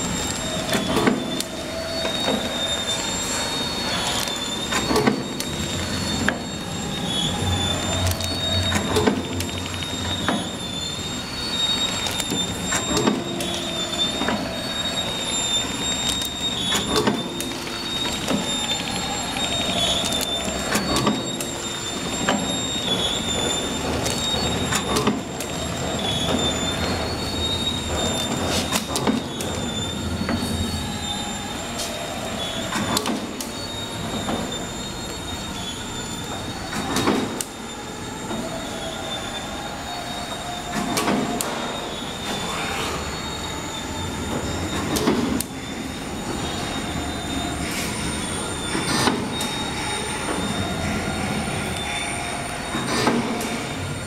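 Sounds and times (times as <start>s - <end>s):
high-pitched machine whine: 0.0s - 54.0s
mechanical clatter of rollers: 0.0s - 54.0s.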